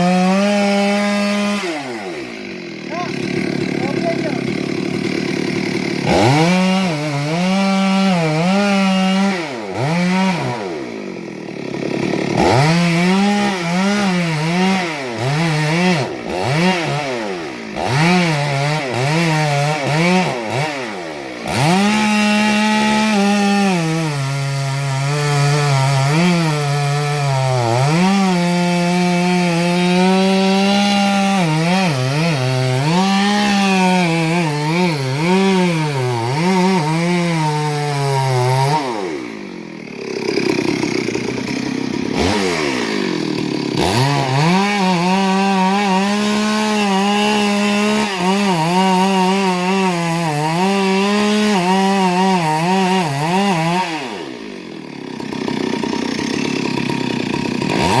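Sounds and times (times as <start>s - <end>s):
chainsaw cutting into tree: 0.0s - 58.0s.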